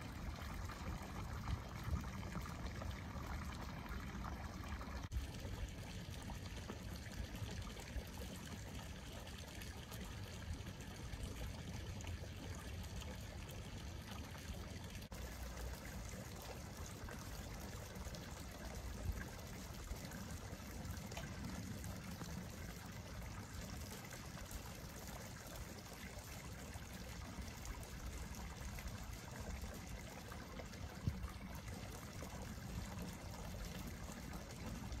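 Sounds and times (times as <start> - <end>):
water trickling: 0.0 - 35.0.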